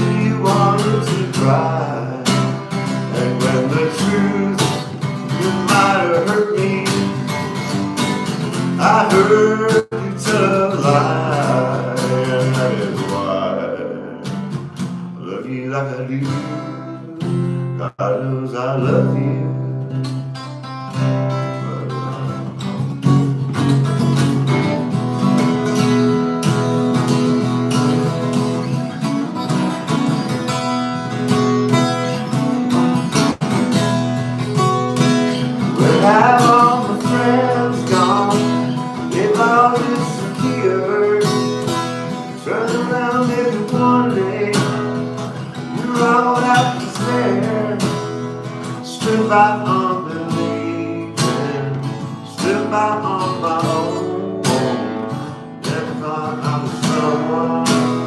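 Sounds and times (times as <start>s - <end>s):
man singing: 0.0s - 20.0s, 21.0s - 22.7s, 33.0s - 58.0s
acoustic guitar strumming chords: 0.0s - 58.0s.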